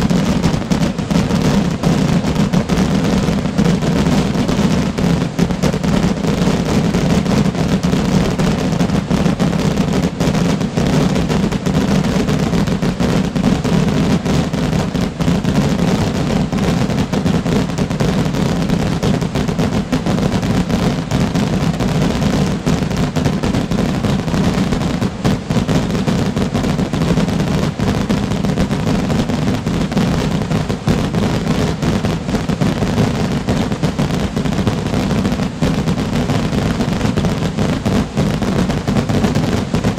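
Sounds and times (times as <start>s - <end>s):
fireworks exploding continuously: 0.0s - 39.9s.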